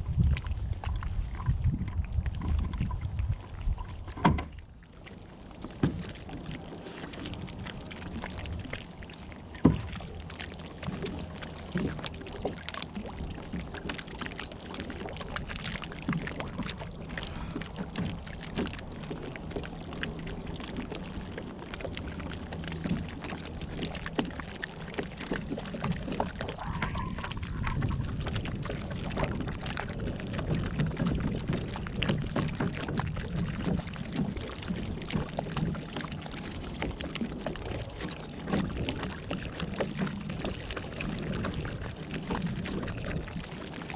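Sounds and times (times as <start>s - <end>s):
water splashing and churning: 0.0s - 43.9s.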